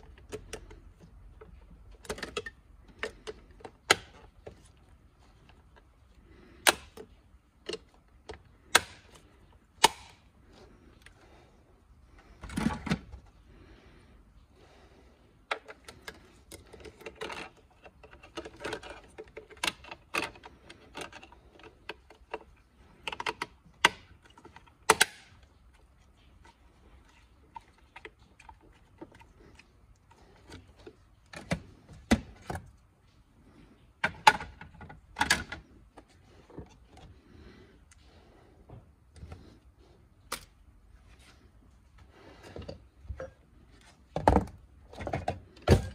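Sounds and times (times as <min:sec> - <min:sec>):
plastic parts clicking and rattling: 0:00.0 - 0:13.5, 0:15.4 - 0:38.1, 0:39.1 - 0:45.9.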